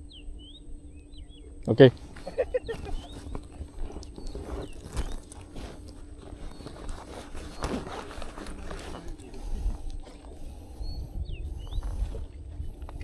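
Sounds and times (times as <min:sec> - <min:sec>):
wind rumble on microphone: 0:00.0 - 0:13.0
rustling and soft knocks: 0:01.9 - 0:13.0.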